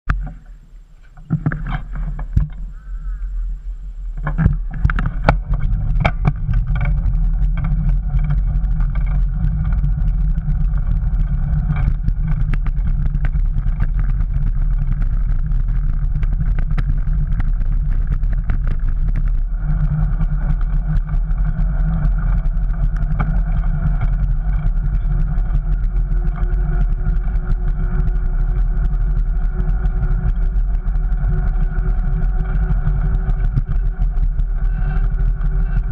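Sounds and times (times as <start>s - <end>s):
wind rumbling on microphone: 0.0s - 35.9s
bike clicks and knocks: 4.1s - 35.9s.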